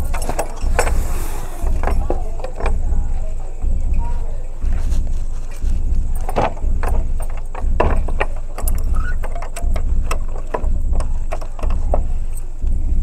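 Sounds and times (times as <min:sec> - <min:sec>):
footsteps: 0:00.0 - 0:13.0
low pulsing rumble: 0:00.0 - 0:13.0.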